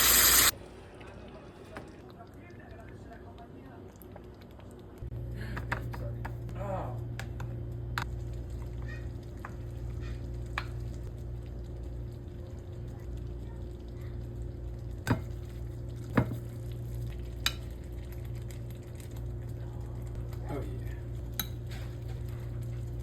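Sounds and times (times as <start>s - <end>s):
food frying in a pan: 0.0s - 5.2s, 6.7s - 23.0s.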